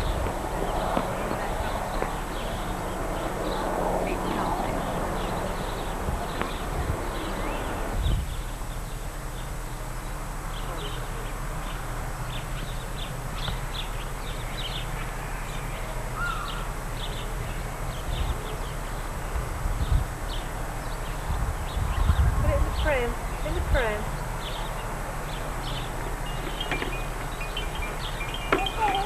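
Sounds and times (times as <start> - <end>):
garden birds chirping: 0.0 - 29.0
steady low rumble: 0.0 - 29.0.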